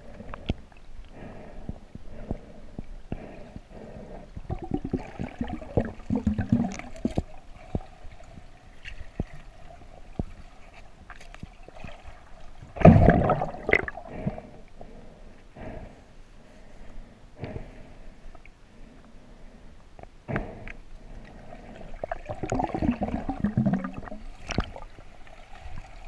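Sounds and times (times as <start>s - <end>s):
underwater gurgling and sloshing: 0.0s - 26.0s.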